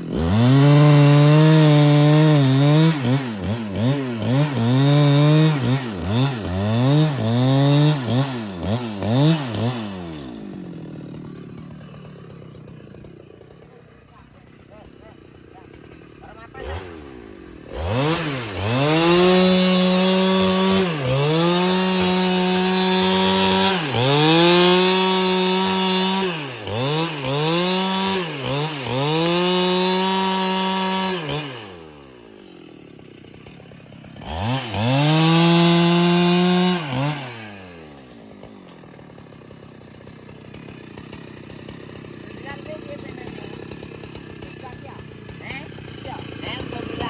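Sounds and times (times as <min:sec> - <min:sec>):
chainsaw revving and idling: 0:00.0 - 0:47.0.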